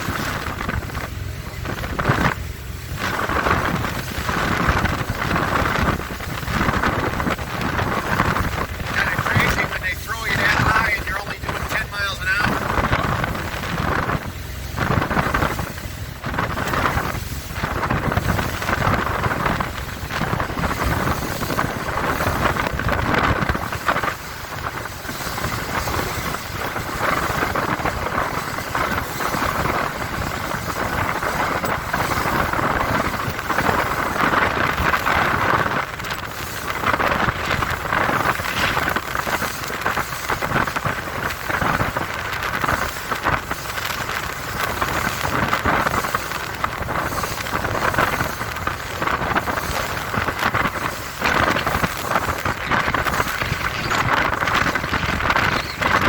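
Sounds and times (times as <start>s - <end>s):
powerboat engine drone: 0.0s - 56.0s
rushing water: 0.0s - 56.0s
wind buffeting microphone: 0.0s - 56.0s.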